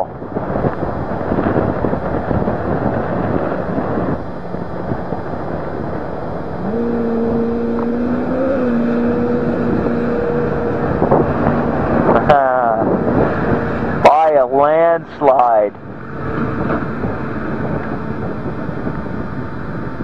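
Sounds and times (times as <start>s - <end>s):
steady engine drone: 0.0s - 20.0s
vehicle engines running hard: 0.0s - 20.0s
wind noise on microphone: 0.0s - 20.0s.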